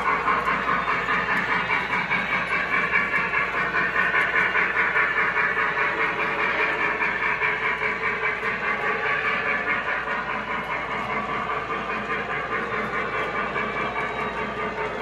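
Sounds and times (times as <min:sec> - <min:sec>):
model train wheels clattering: 0:00.0 - 0:15.0.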